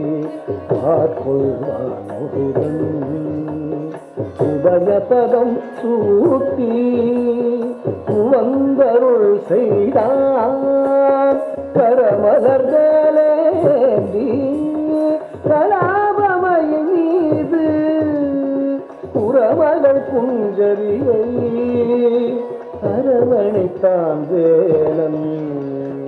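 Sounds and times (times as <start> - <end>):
musical accompaniment: 0.0 - 26.0
person singing ornamented notes: 0.0 - 26.0.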